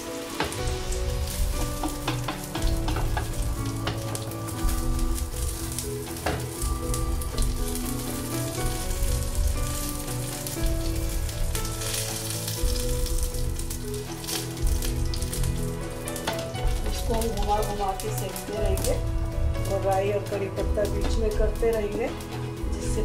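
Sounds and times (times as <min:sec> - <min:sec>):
sandwich sizzling in hot oil: 0:00.0 - 0:23.0.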